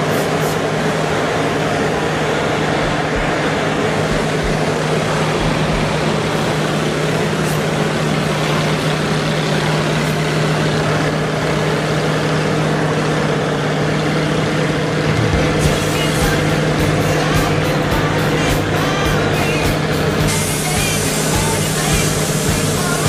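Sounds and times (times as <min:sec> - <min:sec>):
propeller aircraft engine droning: 0:00.0 - 0:23.0.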